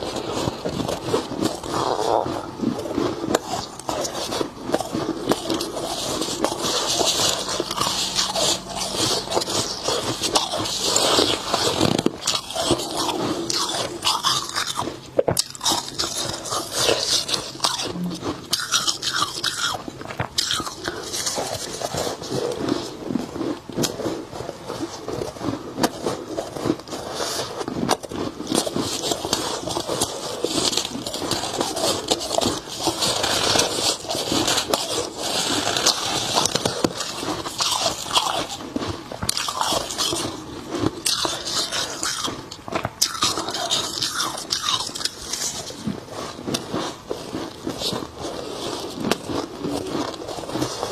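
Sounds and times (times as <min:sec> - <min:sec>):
frost being chewed: 0:00.0 - 0:50.9.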